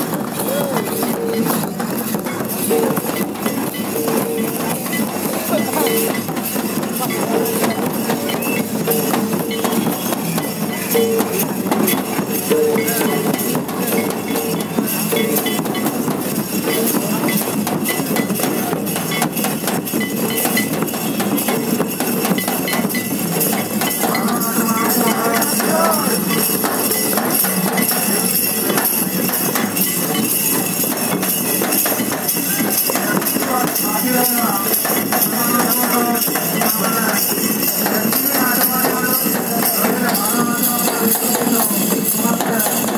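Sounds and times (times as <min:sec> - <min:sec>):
crowd voices: 0:00.0 - 0:42.9
hand drums beating fast: 0:00.0 - 0:42.9.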